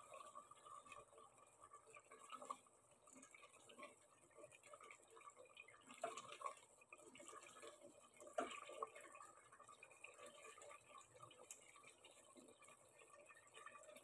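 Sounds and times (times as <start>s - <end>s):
thick sauce bubbling and popping: 0.0s - 14.0s.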